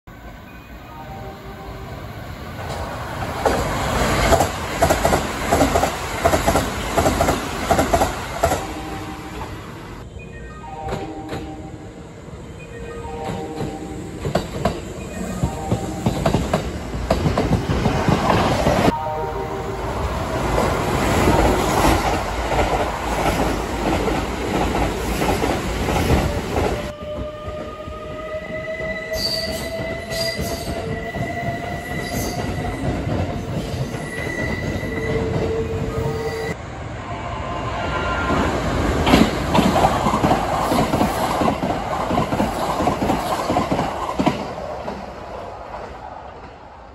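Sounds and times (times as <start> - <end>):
train rumbling and rattling past: 1.4 - 10.1, 10.8 - 46.9.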